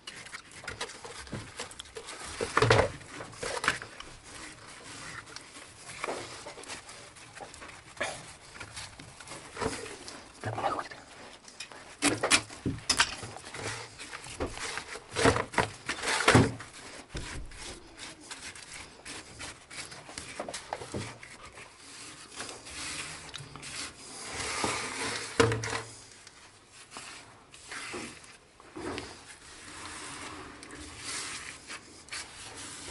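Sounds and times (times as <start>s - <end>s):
mortar rubbing and scraping: 0.0s - 32.9s.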